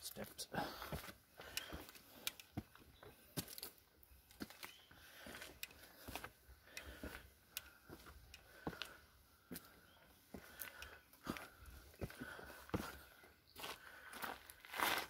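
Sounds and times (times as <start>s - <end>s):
footsteps on stone steps: 0.0s - 15.0s.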